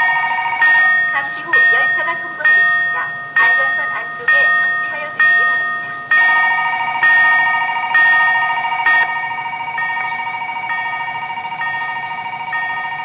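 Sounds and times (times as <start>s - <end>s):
level crossing bells ringing: 0.0s - 13.0s.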